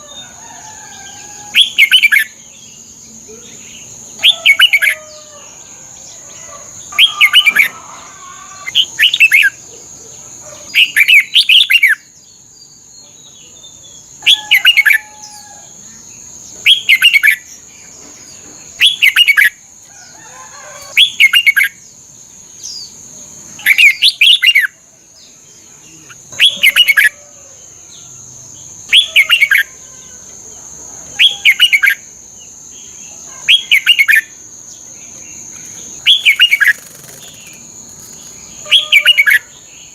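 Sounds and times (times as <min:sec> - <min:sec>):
bird singing warbled phrases: 0:01.1 - 0:06.2, 0:06.8 - 0:15.5, 0:16.2 - 0:19.6, 0:20.8 - 0:27.2, 0:28.6 - 0:29.8, 0:31.2 - 0:39.9.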